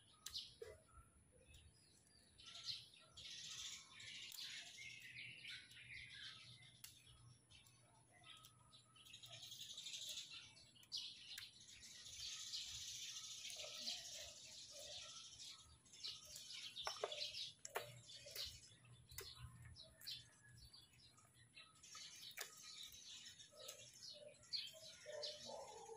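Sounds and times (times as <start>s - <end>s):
small birds twittering: 0.0s - 25.9s.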